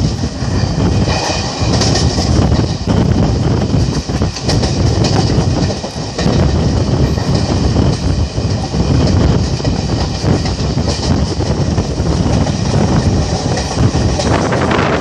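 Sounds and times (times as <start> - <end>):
clattering over rail joints: 0.0 - 15.0
train wheels rumbling on rails: 0.0 - 15.0.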